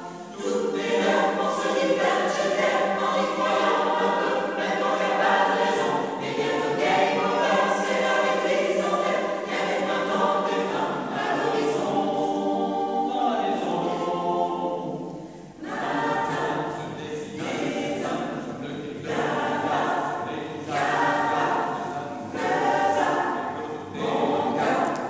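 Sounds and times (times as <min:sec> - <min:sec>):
choir singing a cappella: 0:00.0 - 0:25.0.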